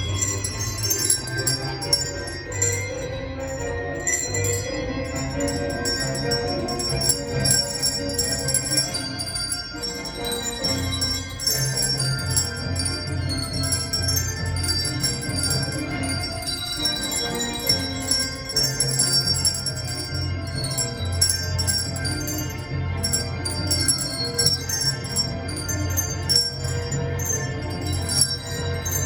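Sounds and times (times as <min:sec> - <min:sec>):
handbell choir playing a tune: 0:00.0 - 0:29.0
low handbell notes: 0:00.0 - 0:29.0.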